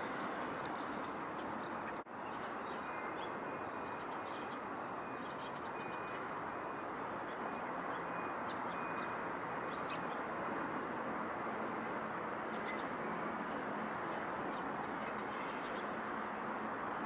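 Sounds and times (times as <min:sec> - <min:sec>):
distant traffic: 0:00.0 - 0:17.0.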